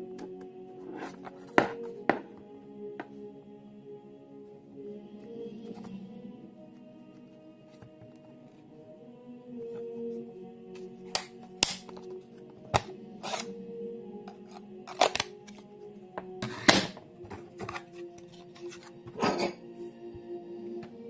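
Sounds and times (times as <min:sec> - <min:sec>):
background music sustained tones: 0:00.0 - 0:21.0.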